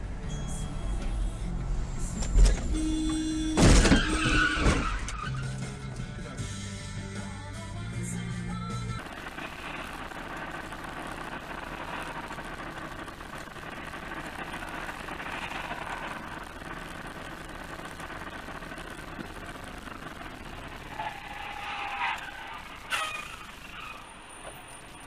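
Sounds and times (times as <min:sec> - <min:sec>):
motor vehicle running: 0:00.0 - 0:25.0.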